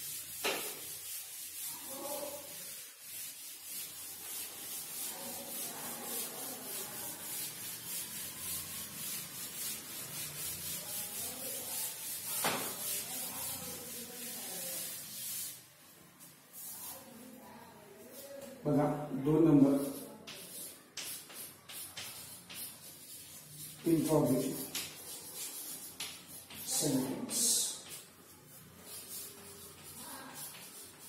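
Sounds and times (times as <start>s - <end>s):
duster rubbing on chalkboard: 0.0s - 31.0s.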